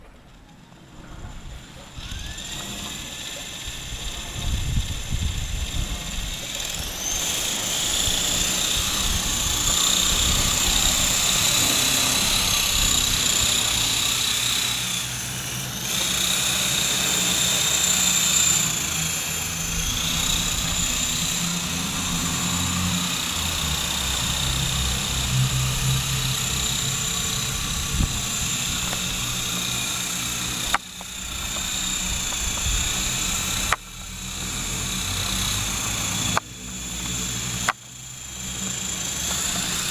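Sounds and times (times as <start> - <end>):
high-pitched motor whine: 0.0 - 39.9
low buzz of rotors: 0.0 - 39.9.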